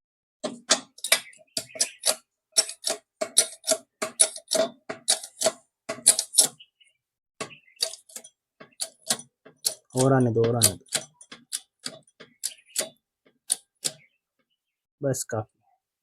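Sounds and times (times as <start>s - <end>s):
metal-on-metal clicks and taps: 0.4s - 6.6s, 7.4s - 14.1s.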